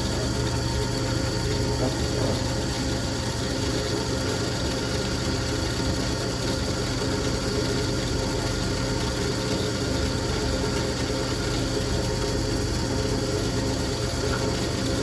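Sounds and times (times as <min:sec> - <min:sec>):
drill press running: 0:00.0 - 0:15.0.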